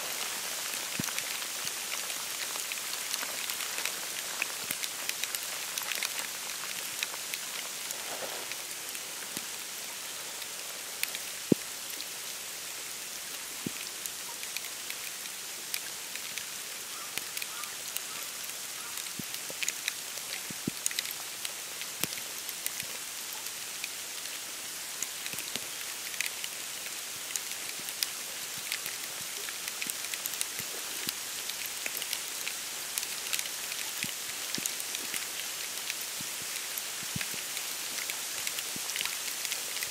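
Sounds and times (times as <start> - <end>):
small drips and ticks: 0.0 - 39.9
wet snow pattering on reeds: 0.0 - 39.9.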